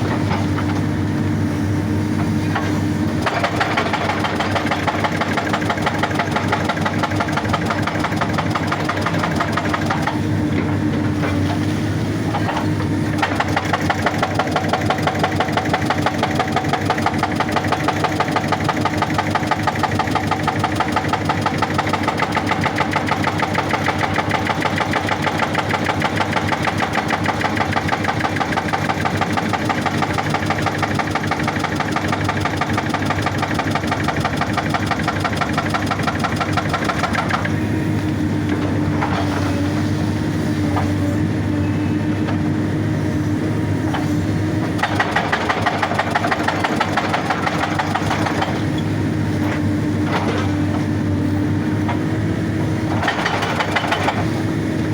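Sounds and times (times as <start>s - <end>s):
diesel engine running: 0.0s - 54.9s
hydraulic breaker hammering rock: 2.2s - 39.9s, 44.6s - 51.1s, 51.8s - 54.9s.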